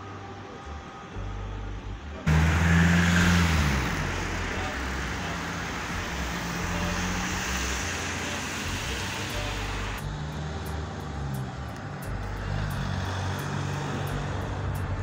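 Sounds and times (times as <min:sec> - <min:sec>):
street traffic: 0:00.0 - 0:15.0
motor vehicle passing close: 0:02.3 - 0:15.0.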